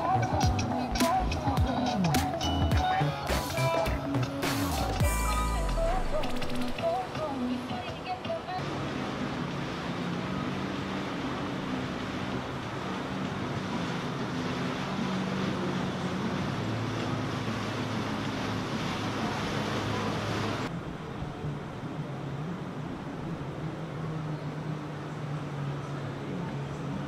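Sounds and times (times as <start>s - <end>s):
boat engines humming: 0.0s - 27.0s.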